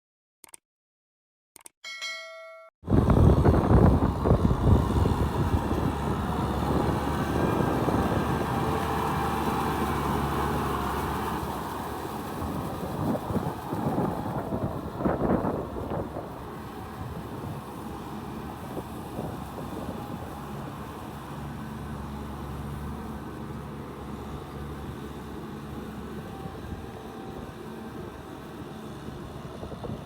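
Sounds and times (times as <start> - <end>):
tractor diesel engine running: 2.9 - 30.0.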